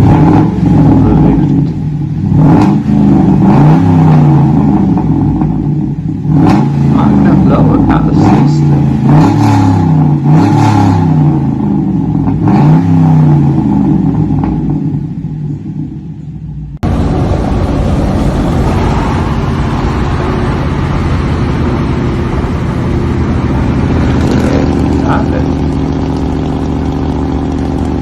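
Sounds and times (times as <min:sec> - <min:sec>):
loud engine running steadily: 0:00.0 - 0:12.5, 0:13.4 - 0:28.0
truck engine revving: 0:00.0 - 0:14.2, 0:16.8 - 0:28.0.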